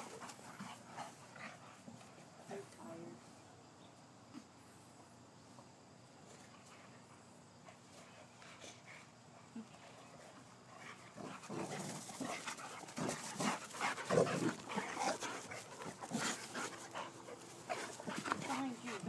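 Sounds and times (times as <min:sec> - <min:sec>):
dogs growling and panting: 0:00.0 - 0:02.8, 0:06.3 - 0:19.0.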